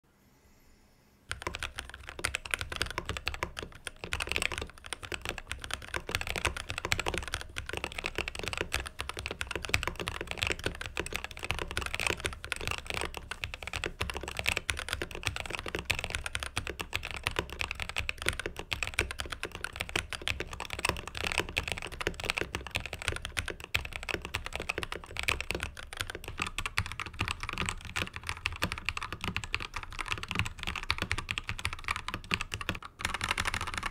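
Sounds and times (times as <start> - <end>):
mechanical keyboard typing: 1.3 - 33.9.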